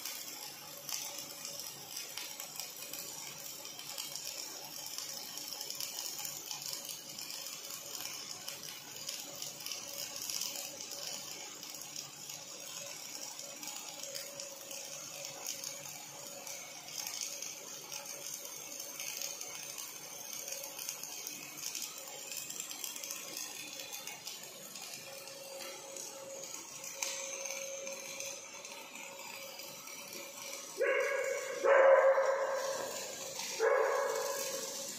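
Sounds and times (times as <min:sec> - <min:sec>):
welding arc crackling and sizzling: 0:00.0 - 0:34.9.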